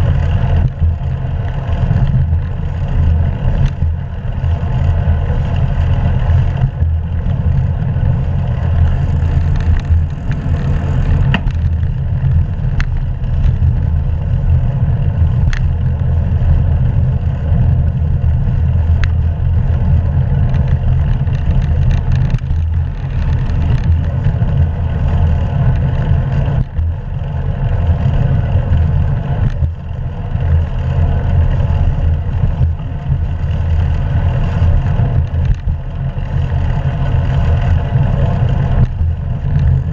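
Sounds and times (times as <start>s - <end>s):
bike ticking: 0.0s - 39.9s
wind rumble on microphone: 0.0s - 39.9s.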